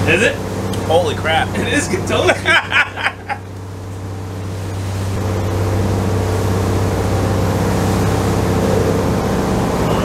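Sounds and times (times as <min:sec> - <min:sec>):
boat engines droning: 0:00.0 - 0:10.0.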